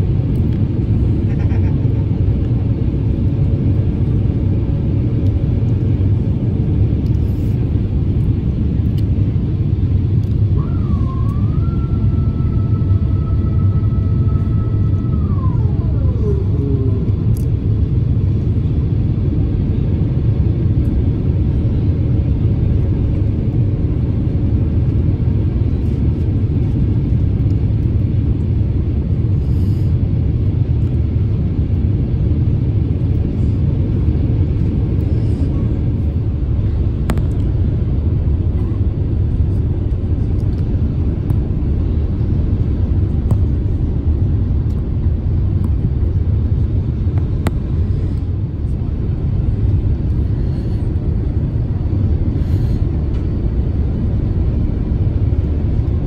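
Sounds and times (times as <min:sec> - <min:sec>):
airflow over airframe: 0:00.0 - 0:56.0
airliner cabin engine rumble: 0:00.0 - 0:56.0.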